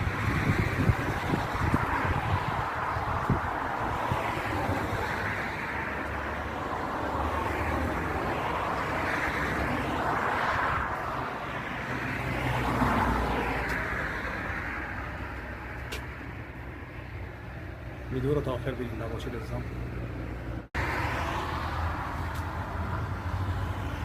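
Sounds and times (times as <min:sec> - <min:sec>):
cars passing: 0:00.0 - 0:24.0
low rumble of tyres and engines: 0:00.0 - 0:24.0.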